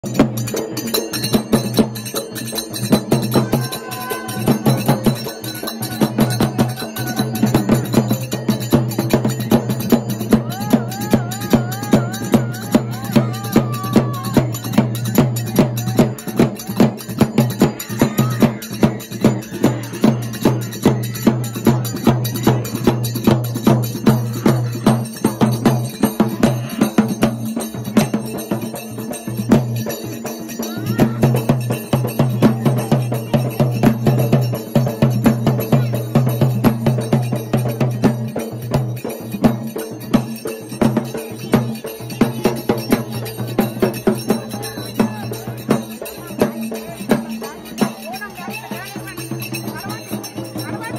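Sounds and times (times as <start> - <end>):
jingling bells: 0.0 - 50.9
rhythmic drumming: 0.0 - 50.9.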